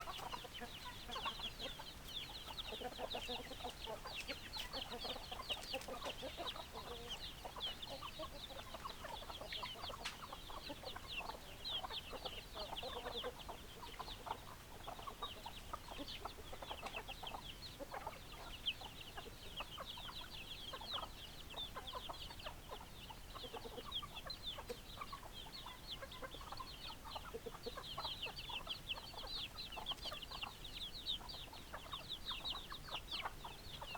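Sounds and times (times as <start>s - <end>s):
chickens clucking: 0.0s - 33.9s
high-pitched peeping calls: 0.0s - 33.9s.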